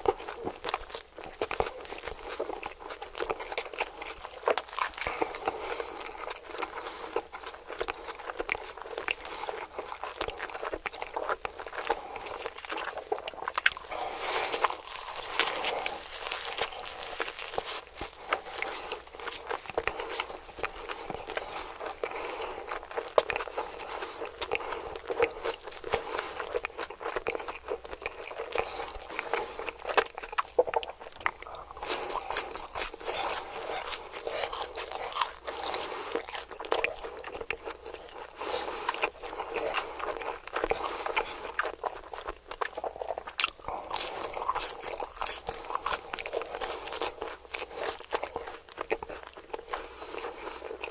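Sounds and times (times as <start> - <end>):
crunchy food being chewed: 0.0 - 50.9.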